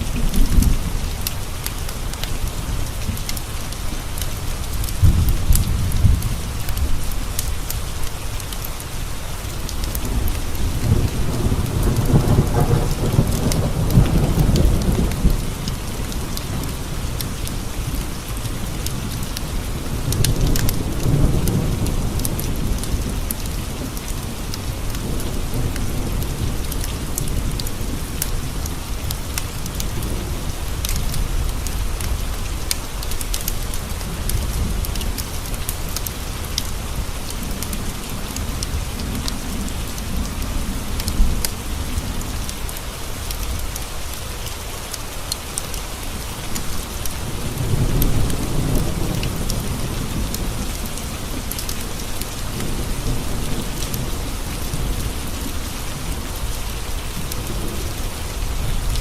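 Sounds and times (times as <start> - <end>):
rain tapping on window glass: 0.0 - 59.0
low thunder rumbling: 3.8 - 7.7, 9.6 - 44.4, 46.0 - 59.0.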